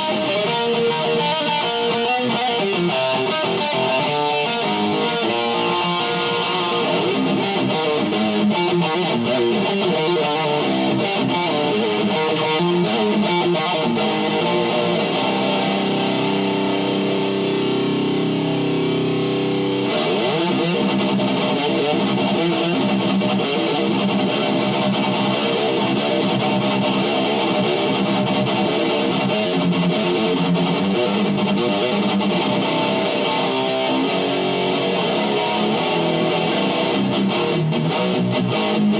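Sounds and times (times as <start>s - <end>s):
distorted electric guitar riffs: 0.0s - 38.9s.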